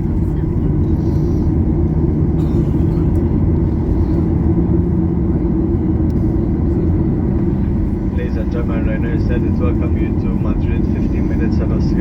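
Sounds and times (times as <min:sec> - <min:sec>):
airframe rolling rumble: 0:00.0 - 0:12.0
jet engines taxiing: 0:00.0 - 0:12.0.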